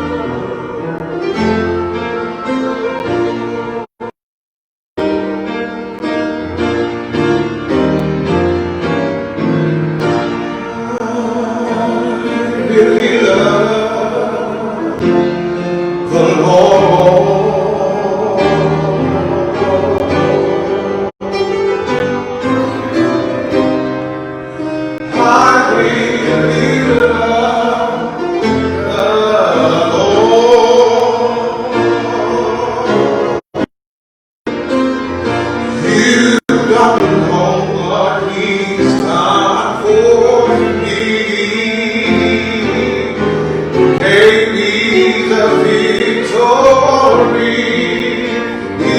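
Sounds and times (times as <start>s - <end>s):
gospel singing with instruments: 0.0s - 3.9s, 8.3s - 23.8s, 24.4s - 33.7s, 35.0s - 48.9s.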